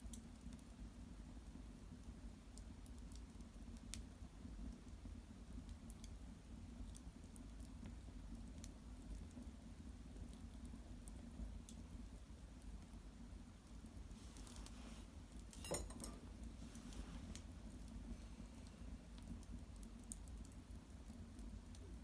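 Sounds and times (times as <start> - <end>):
small wood fire crackling: 0.0 - 22.0.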